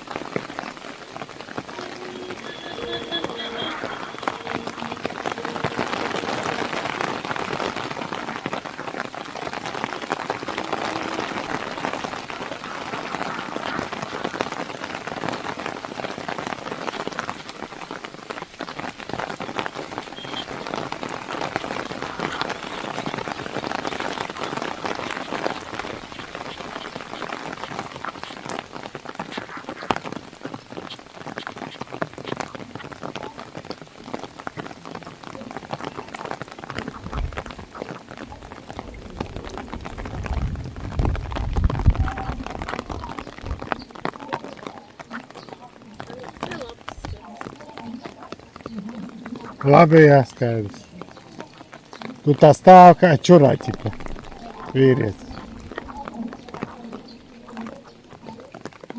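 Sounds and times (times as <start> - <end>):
heavy rain on car windshield: 0.0 - 58.9.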